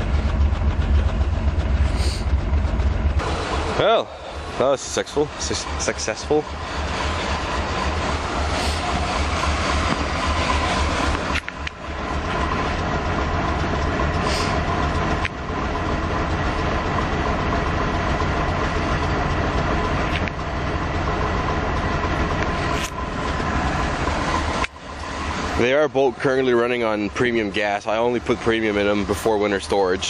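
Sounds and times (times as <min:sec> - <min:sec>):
van engine idling: 0:00.0 - 0:30.0.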